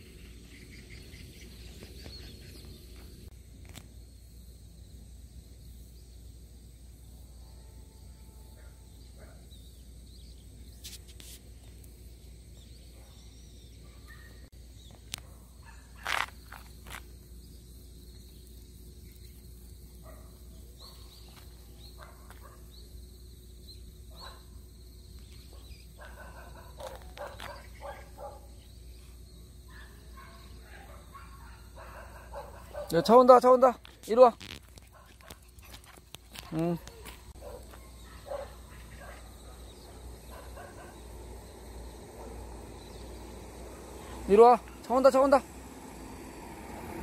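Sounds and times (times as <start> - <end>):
insect drone: 0.0 - 47.0.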